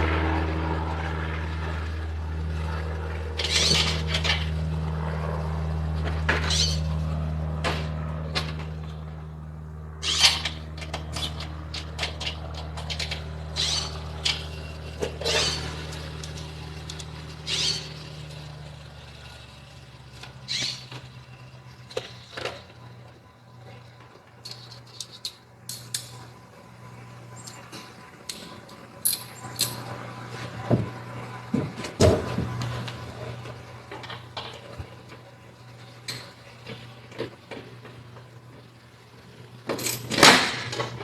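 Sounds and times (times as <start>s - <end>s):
low engine-like hum: 0.0s - 41.0s.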